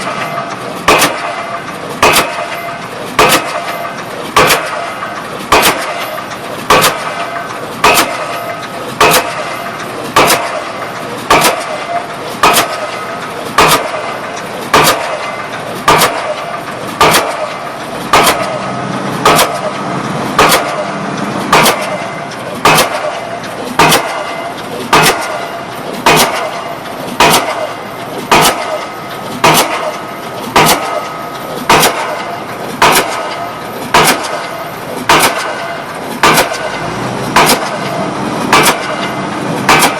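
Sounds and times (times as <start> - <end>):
continuous machine noise: 0.0 - 39.9
pile-driving hammer blows: 0.0 - 39.9.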